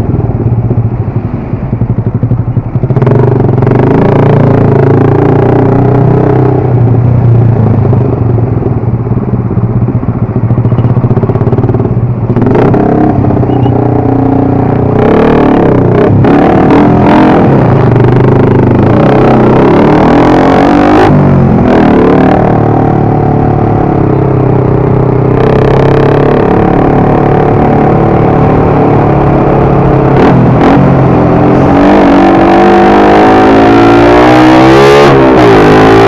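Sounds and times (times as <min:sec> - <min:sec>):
motorcycle engine running: 0:00.0 - 0:34.1.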